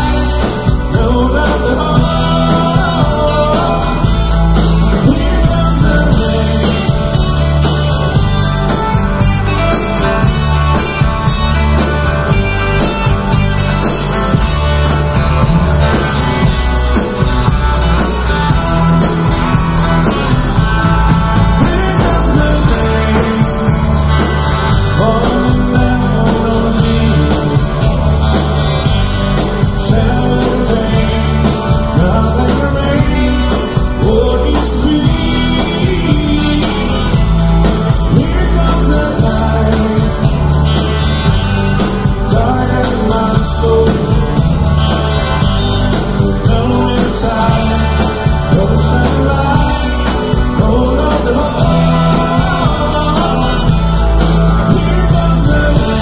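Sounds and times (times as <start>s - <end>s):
man singing lead: 0.0s - 10.9s, 20.0s - 56.0s
country-rock band playing: 0.0s - 56.0s.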